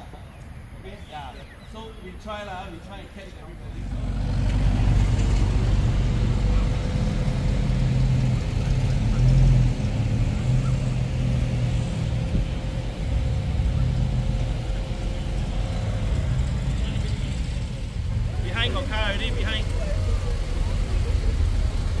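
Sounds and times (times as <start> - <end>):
car engine running: 3.6 - 22.0.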